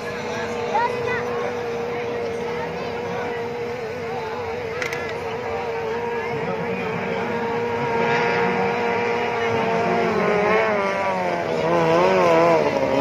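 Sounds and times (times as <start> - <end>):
outboard engine high whine: 0.0 - 13.0.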